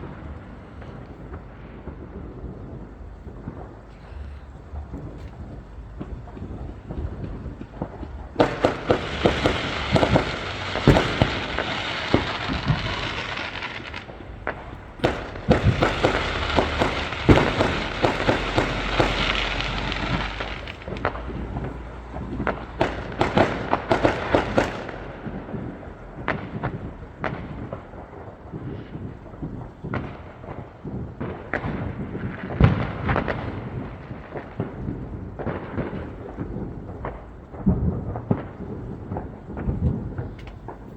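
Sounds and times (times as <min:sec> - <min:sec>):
fireworks crackling and popping: 0:00.0 - 0:40.9
fireworks sharp bangs: 0:00.0 - 0:40.9.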